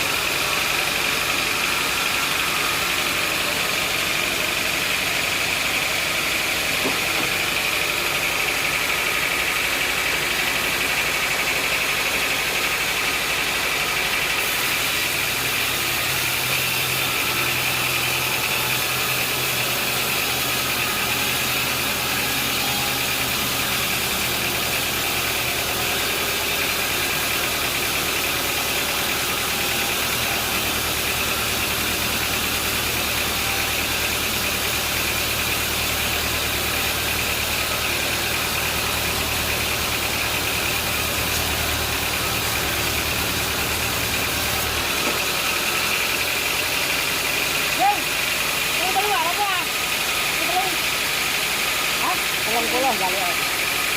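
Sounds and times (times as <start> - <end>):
high machine whine: 0.0 - 53.9
sawmill motor hum: 0.0 - 53.9.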